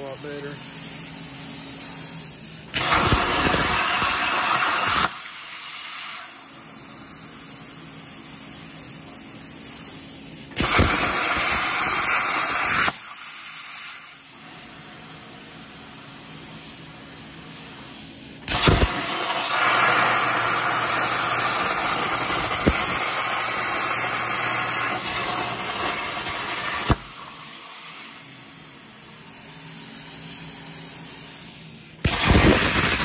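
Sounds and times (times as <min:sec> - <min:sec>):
plasma cutter cutting steel: 0:00.0 - 0:07.8, 0:10.5 - 0:16.1, 0:18.4 - 0:33.0
steady hiss: 0:00.0 - 0:33.0.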